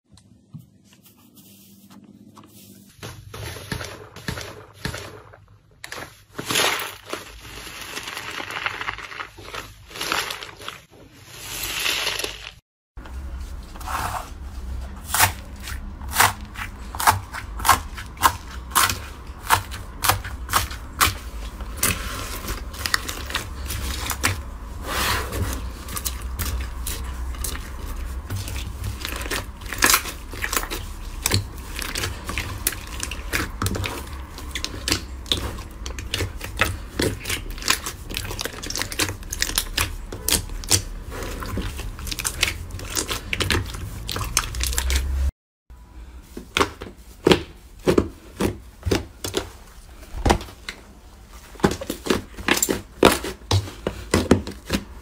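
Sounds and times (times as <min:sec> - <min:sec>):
slime squishing: 0:01.1 - 0:12.6, 0:13.8 - 0:45.3, 0:46.3 - 0:55.0.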